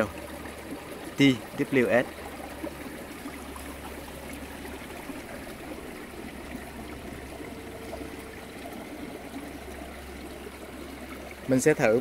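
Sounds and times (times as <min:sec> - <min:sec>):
stream babbling over rocks: 0:00.0 - 0:12.0.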